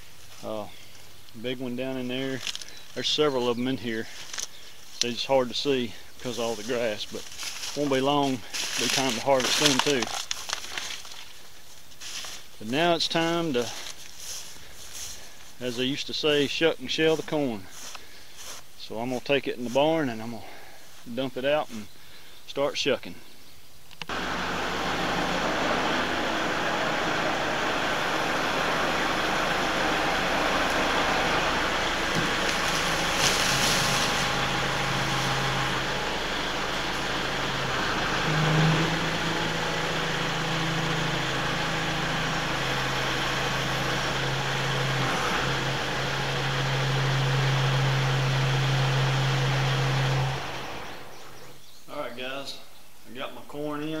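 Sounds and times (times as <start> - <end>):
tractor diesel engine running: 0.0 - 21.0, 24.1 - 51.5.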